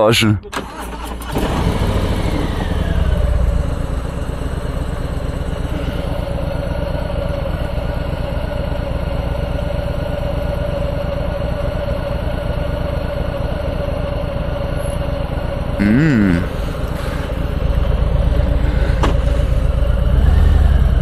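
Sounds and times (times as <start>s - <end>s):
motorcycle engine idling: 3.0s - 21.0s.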